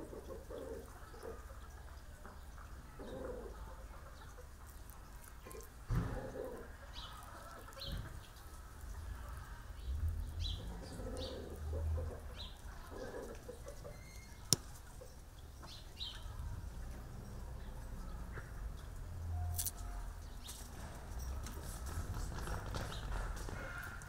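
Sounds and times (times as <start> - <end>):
birds chirping: 0.0 - 20.7.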